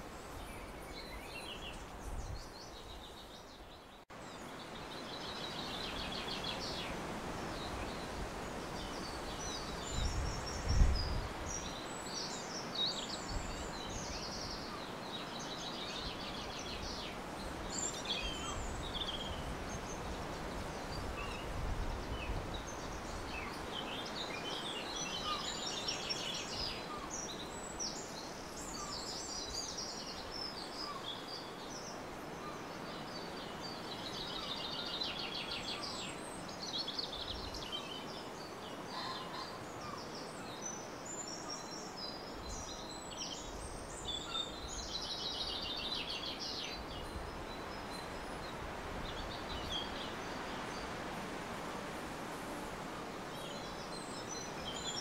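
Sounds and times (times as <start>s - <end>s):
background hiss: 0.0s - 55.0s
songbirds twittering and trilling: 0.0s - 55.0s.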